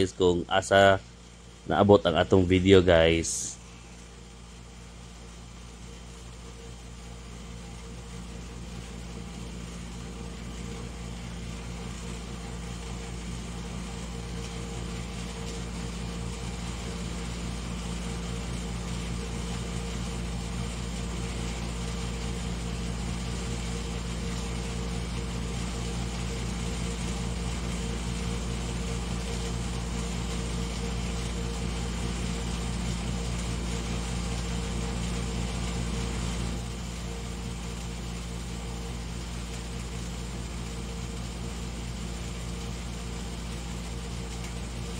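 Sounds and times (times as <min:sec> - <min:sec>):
mechanical hum with held tones: 0:00.0 - 0:44.9.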